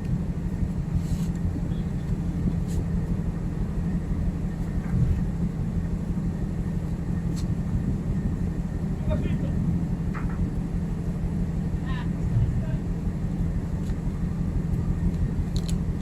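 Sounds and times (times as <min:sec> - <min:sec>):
ship machinery drone: 0:00.0 - 0:16.0.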